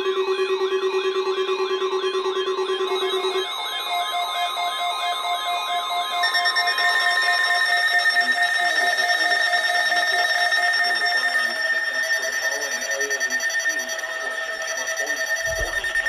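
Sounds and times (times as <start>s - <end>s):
overlapping electronic alert tones: 2.6s - 16.0s
low pulsing alert tone: 2.9s - 16.0s.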